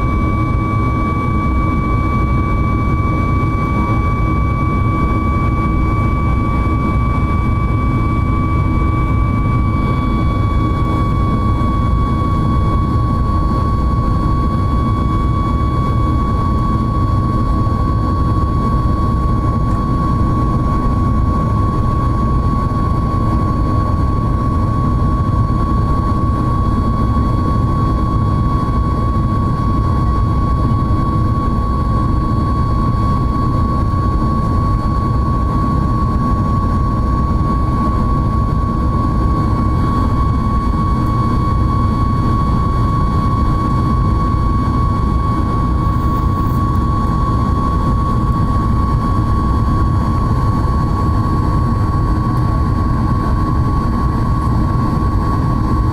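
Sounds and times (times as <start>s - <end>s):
high-pitched engine whine: 0.0s - 55.9s
jet engine roar: 0.0s - 55.9s.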